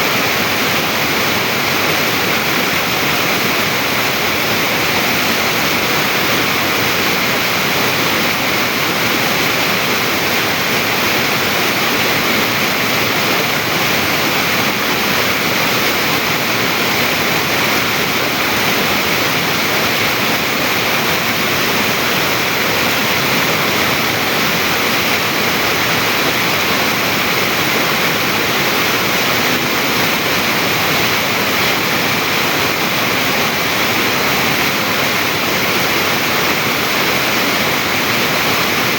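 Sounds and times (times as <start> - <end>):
stream water rushing over rock: 0.0 - 38.9.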